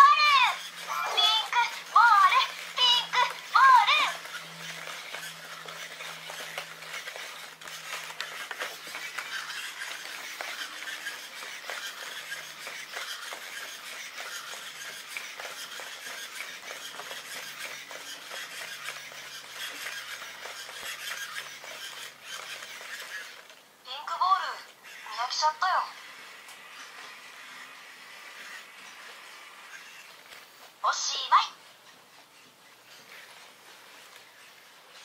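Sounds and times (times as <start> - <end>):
robot motors clicking: 0.0 - 23.6, 24.6 - 30.7.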